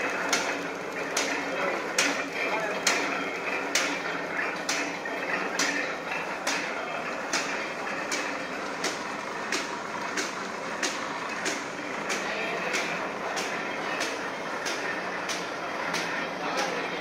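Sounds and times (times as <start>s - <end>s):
machine clatter of rollers and gears: 0.0s - 17.0s
sharp machine clack: 0.0s - 17.0s.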